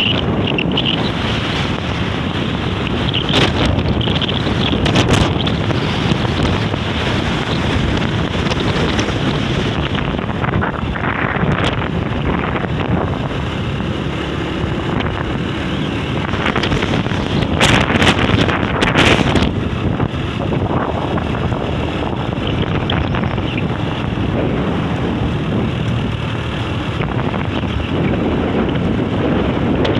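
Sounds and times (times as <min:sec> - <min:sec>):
strong wind blowing on microphone: 0:00.0 - 0:29.9.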